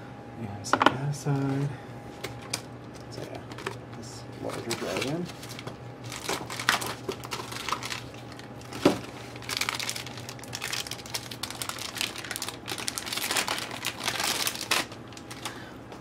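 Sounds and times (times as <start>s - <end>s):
hard drive packaging crinkling: 1.3s - 3.8s, 4.4s - 15.6s.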